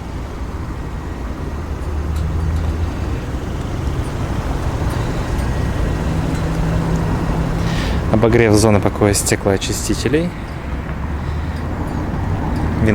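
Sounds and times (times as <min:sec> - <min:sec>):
faint engine hum: 0:00.0 - 0:12.9
road traffic rumble: 0:00.0 - 0:12.9.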